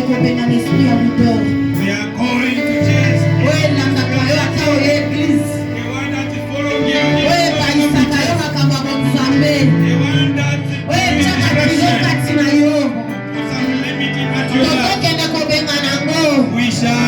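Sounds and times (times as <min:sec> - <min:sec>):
low bass note: 0:00.0 - 0:15.5
voices singing worship music: 0:00.0 - 0:17.0.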